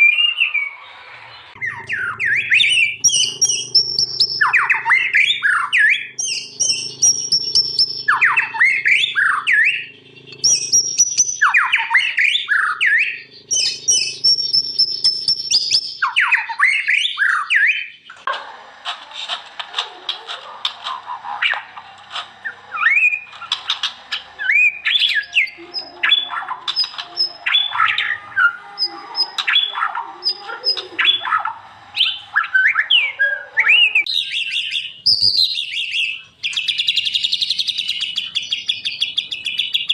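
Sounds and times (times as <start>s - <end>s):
bird singing whistled phrases: 0.0s - 18.0s, 21.4s - 39.9s
bird chirps and trills: 0.0s - 18.3s, 19.8s - 39.9s.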